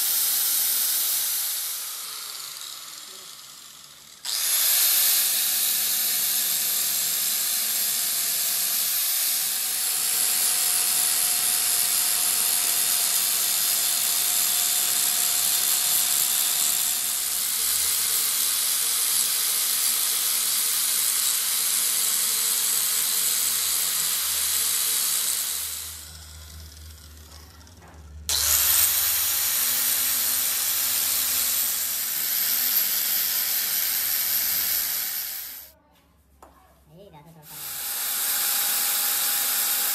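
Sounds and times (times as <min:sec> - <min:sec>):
angle grinder grinding steel: 0:00.0 - 0:35.8, 0:37.4 - 0:39.9.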